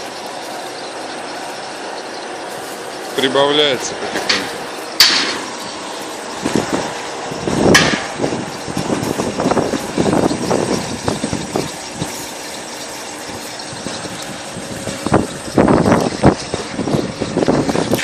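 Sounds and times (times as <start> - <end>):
machine motor hum: 0.0 - 18.0.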